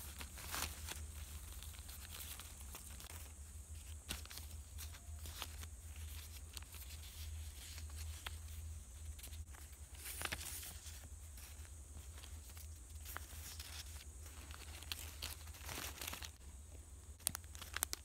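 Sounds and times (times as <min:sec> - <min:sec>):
paper rustling and crinkling: 0:00.0 - 0:16.4, 0:17.2 - 0:18.0
steady low hum: 0:00.0 - 0:17.7.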